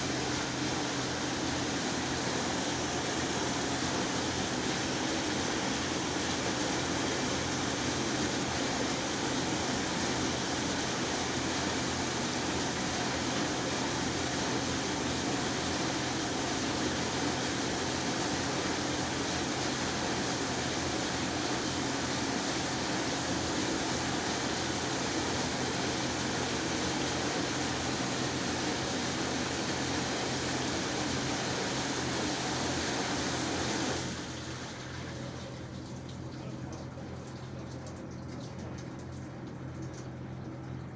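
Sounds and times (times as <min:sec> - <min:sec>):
dishwasher motor hum: 0:00.0 - 0:40.9
dishwasher water rushing: 0:00.0 - 0:40.9.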